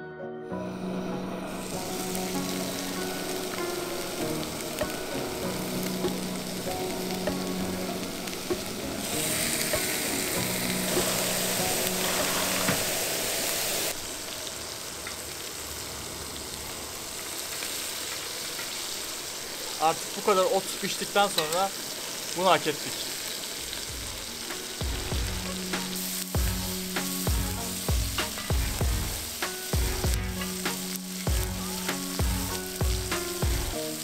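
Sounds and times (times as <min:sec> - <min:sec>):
steaks sizzling on a grill pan: 0:01.4 - 0:34.0.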